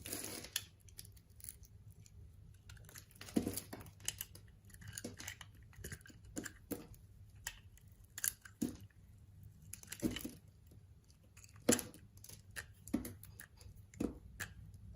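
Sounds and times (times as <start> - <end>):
knife cutting soap: 0.0 - 9.0, 9.6 - 14.9.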